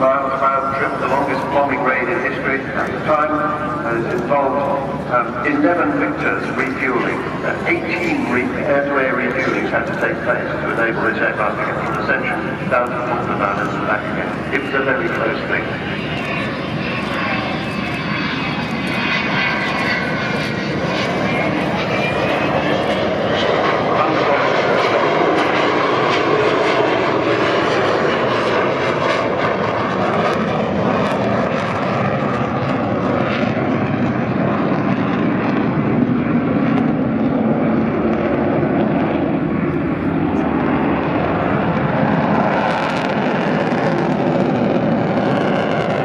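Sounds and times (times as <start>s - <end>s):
jet bomber engines roaring: 0.0s - 46.0s.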